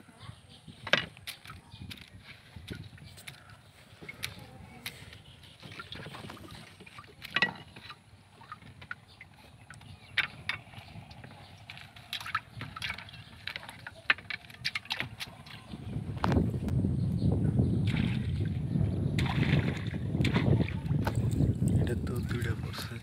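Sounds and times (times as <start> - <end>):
water sloshing around boat: 0.0 - 16.7, 17.6 - 23.0.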